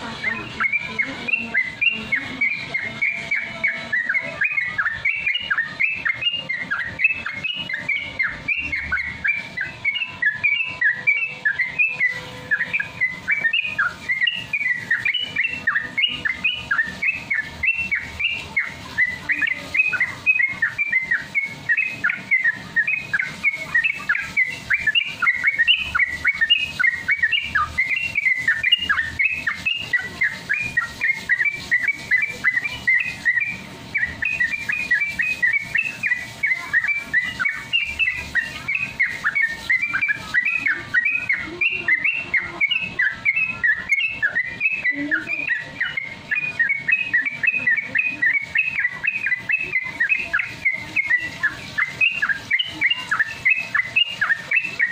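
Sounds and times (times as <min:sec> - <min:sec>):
bird singing rapid chirps: 0:00.0 - 0:54.9.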